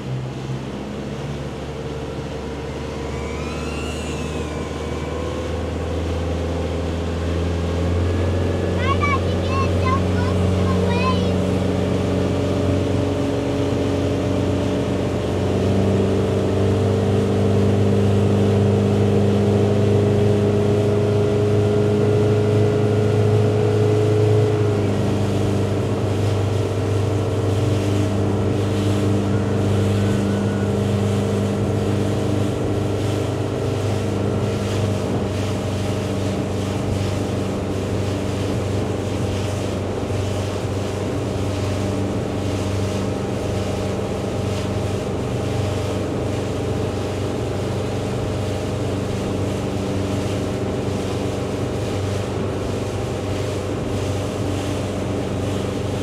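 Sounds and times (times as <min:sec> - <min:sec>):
motorboat engine running: 0:00.0 - 0:56.0
rush of wind and water: 0:00.0 - 0:56.0.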